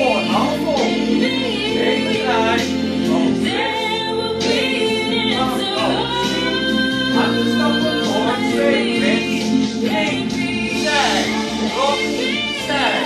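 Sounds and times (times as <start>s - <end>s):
person singing over music: 0.0s - 13.0s.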